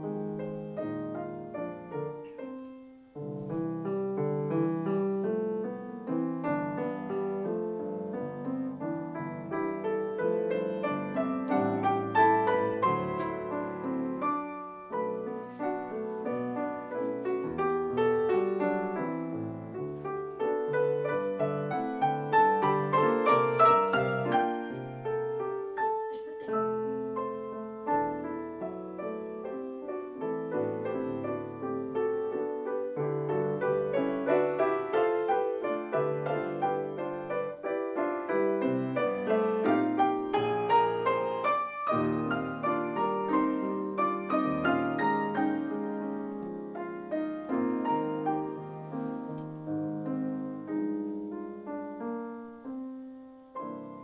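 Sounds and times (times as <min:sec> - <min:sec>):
piano duet: 0:00.0 - 0:54.0.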